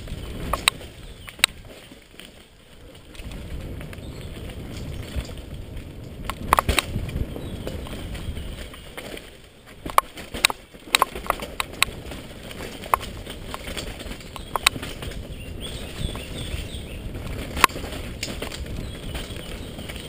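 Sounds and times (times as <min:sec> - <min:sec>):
bike clacking and rattling: 0:00.0 - 0:20.0
tyres rumbling on dirt trail: 0:00.0 - 0:20.0.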